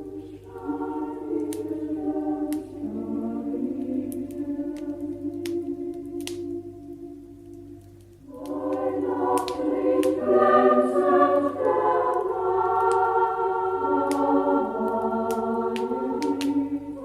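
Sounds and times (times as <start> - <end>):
choir singing slow held chords: 0.0 - 17.0
wood fire crackling: 0.0 - 17.0.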